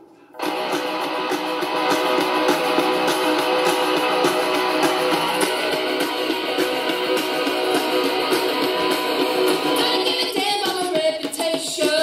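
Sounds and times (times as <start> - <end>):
rock song with electric guitar: 0.4 - 10.1.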